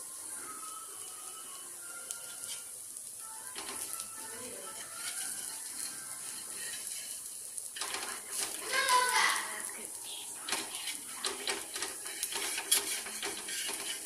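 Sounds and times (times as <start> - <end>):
batter sizzling on a griddle: 0.0 - 14.0.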